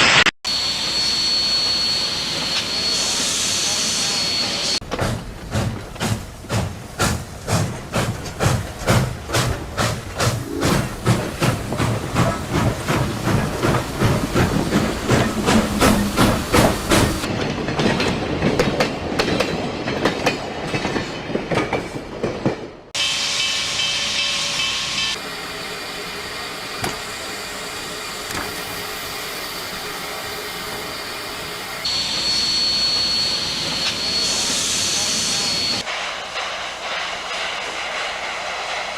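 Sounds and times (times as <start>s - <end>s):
steam hissing: 0.0s - 17.3s, 23.0s - 38.9s
steam locomotive chuffing: 0.6s - 18.6s, 23.0s - 38.9s.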